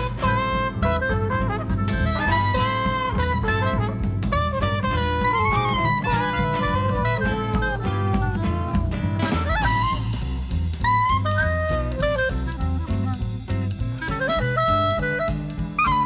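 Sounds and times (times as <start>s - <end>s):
jazz band playing: 0.0s - 16.0s.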